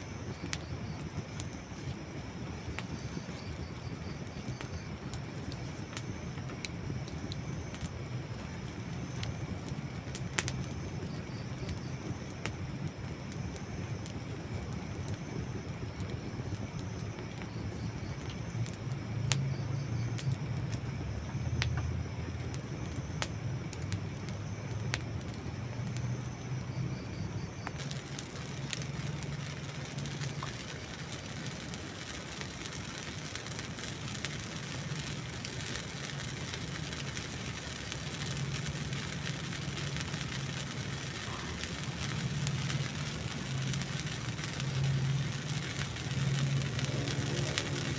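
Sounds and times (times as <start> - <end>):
campfire crackling and popping: 0.0 - 47.9
fire hiss: 0.0 - 47.9.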